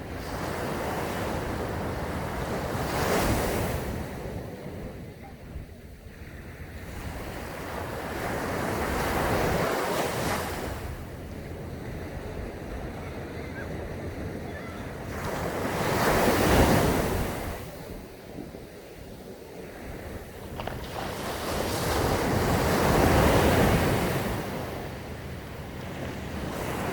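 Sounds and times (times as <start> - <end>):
waves breaking on beach: 0.0 - 26.9
wind on microphone: 0.0 - 26.9.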